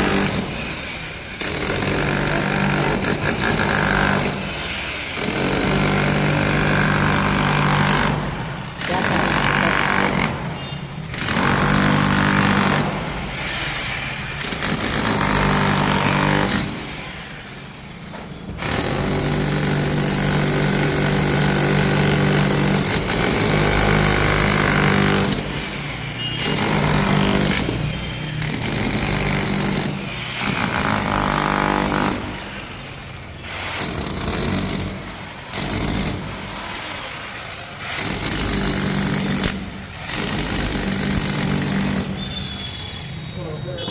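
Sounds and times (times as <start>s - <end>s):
demolition hammer breaking concrete: 0.0s - 17.1s, 18.0s - 32.6s, 33.4s - 37.0s, 37.8s - 42.4s.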